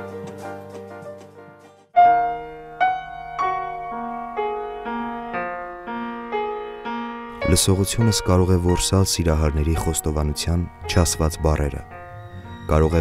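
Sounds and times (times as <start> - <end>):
background music: 0.0 - 13.0
slow piano notes: 0.0 - 13.0.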